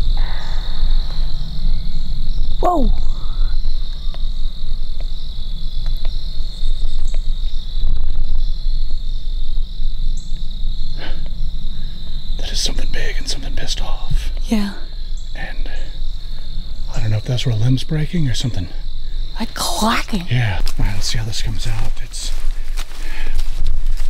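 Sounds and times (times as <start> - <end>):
low rumble: 0.0 - 22.6
high-pitched insect chorus: 0.0 - 24.0.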